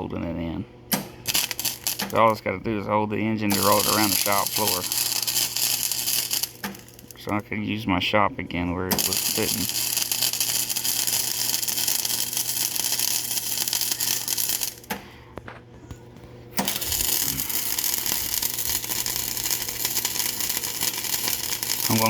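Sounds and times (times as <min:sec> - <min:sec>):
welder arc crackling: 0:00.9 - 0:02.8, 0:03.4 - 0:07.7, 0:08.9 - 0:15.2, 0:16.6 - 0:22.0.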